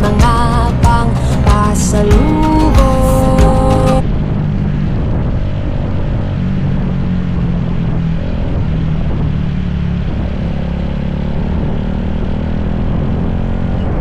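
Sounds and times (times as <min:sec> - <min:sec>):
constant rushing noise: 0:00.0 - 0:14.0
motorcycle engine running: 0:00.0 - 0:14.0.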